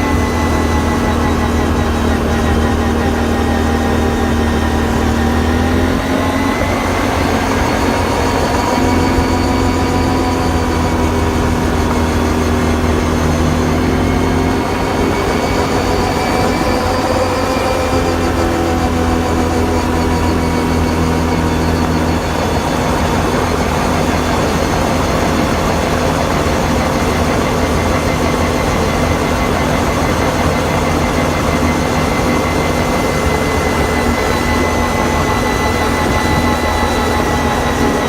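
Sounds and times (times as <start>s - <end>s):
atv engine running: 0.0s - 38.0s
constant mechanical whine: 0.0s - 38.0s.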